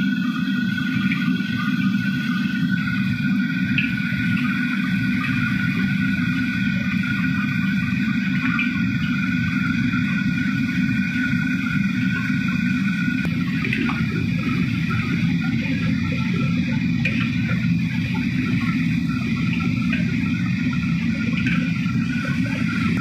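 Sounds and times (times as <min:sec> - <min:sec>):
gas burner roaring: 0:00.0 - 0:23.0
kitchen exhaust: 0:00.0 - 0:23.0.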